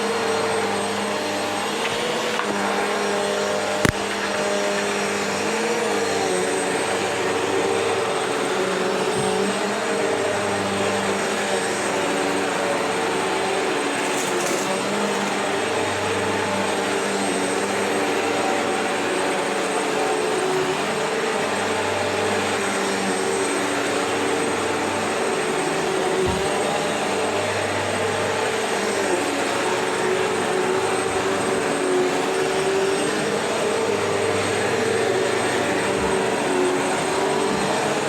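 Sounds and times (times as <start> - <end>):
vacuum cleaner running on carpet: 0.0 - 38.0.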